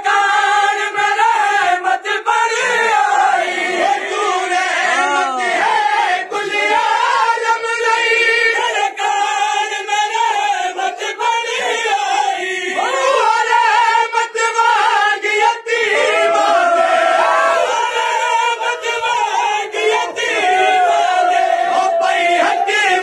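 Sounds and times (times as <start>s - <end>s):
men singing in unison: 0.0s - 23.0s
person reciting into a microphone: 0.0s - 23.0s.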